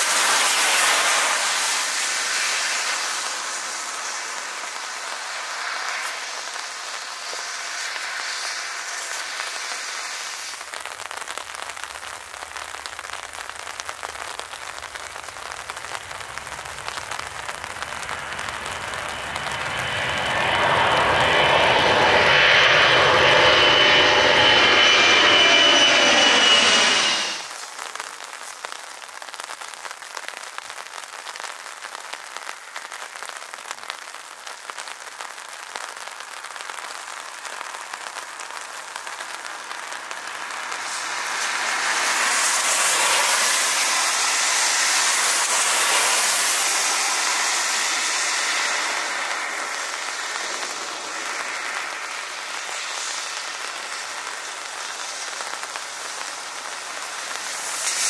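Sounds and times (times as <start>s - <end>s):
distant aircraft: 0.0s - 27.6s, 37.0s - 58.0s
rain hissing: 0.0s - 58.0s.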